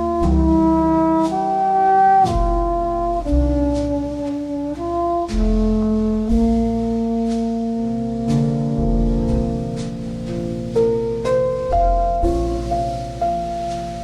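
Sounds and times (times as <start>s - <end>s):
jazzy held chords: 0.0s - 14.0s.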